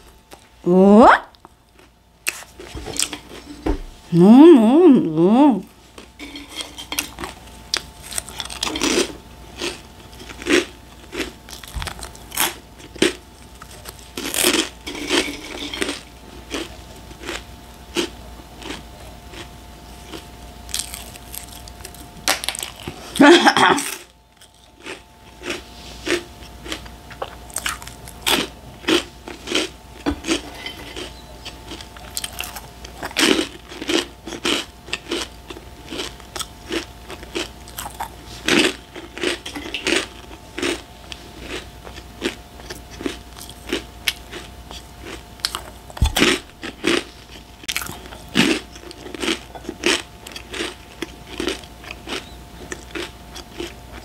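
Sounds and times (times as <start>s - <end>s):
person crunching snack chips: 6.0s - 54.0s.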